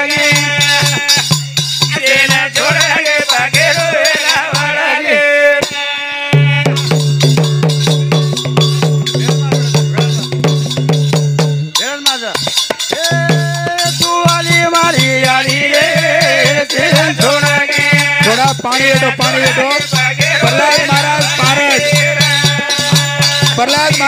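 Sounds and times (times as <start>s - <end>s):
men singing: 0.0s - 10.5s, 12.8s - 24.0s
fast rattling percussion: 0.0s - 24.0s.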